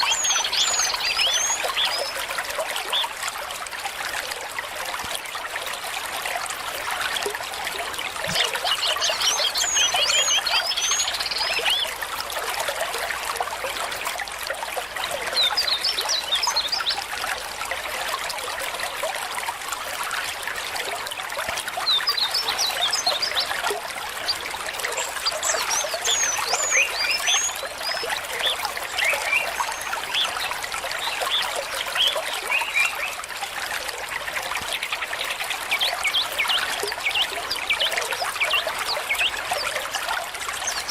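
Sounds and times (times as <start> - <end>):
stream water trickling: 0.0 - 40.9.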